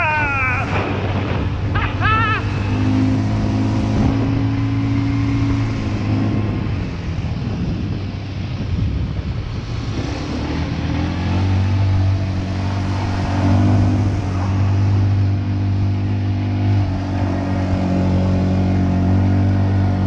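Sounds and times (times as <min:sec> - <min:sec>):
rushing noise: 0:00.0 - 0:20.0
quad bike engine revving: 0:00.6 - 0:06.9, 0:09.7 - 0:20.0.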